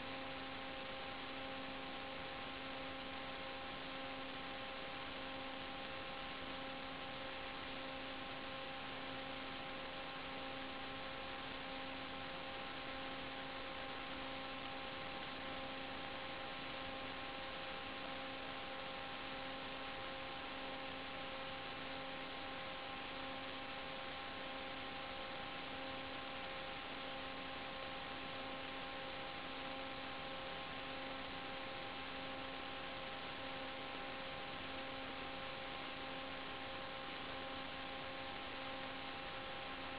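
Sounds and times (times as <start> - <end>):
electrical hum: 0.0 - 39.9
static hiss: 0.0 - 39.9
steady whine tones: 0.0 - 39.9.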